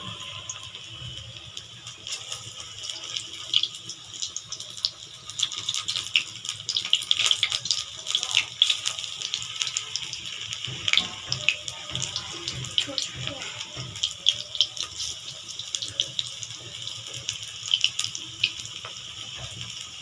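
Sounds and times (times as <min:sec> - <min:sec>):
deep-frying sizzle with crackling pops: 0:00.0 - 0:20.0.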